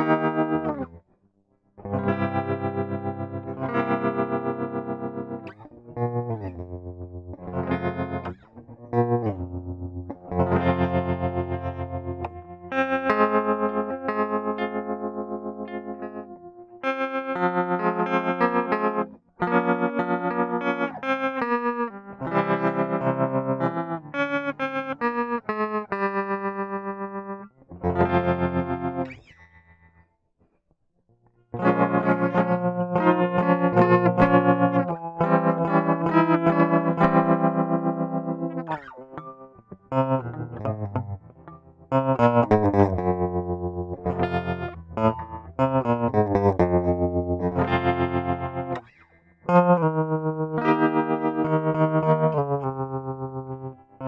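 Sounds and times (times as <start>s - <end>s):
distorted electric guitar: 0.0s - 1.0s, 1.8s - 29.4s, 31.6s - 54.0s.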